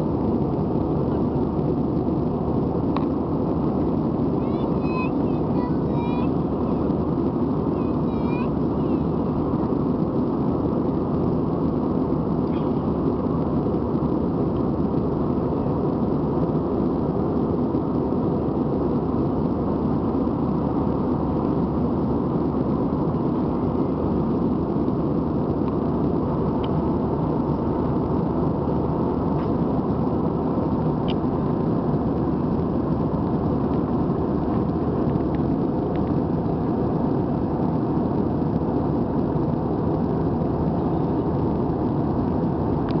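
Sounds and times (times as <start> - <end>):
jet engines in cabin: 0.0 - 43.0.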